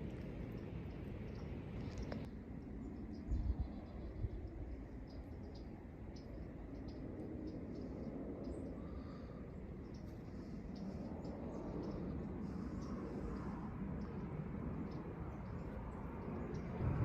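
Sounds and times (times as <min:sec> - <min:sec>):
fighter jets rumbling overhead: 0:00.0 - 0:17.0
small birds chipping: 0:00.0 - 0:17.0.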